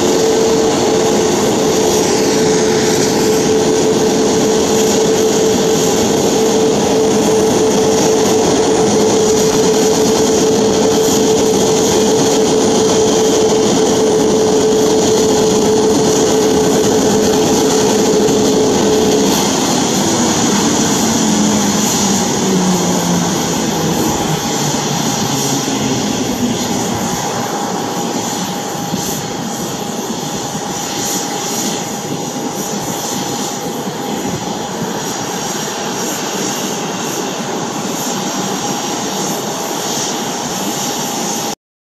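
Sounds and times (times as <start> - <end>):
jet engines idling and winding down: 0.0 - 41.6.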